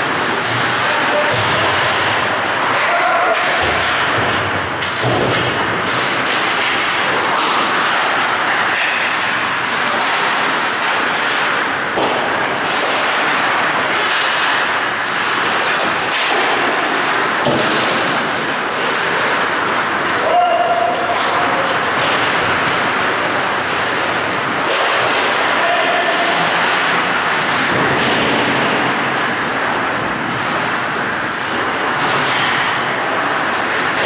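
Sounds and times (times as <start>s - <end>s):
skates scraping on ice: 0.0s - 30.8s.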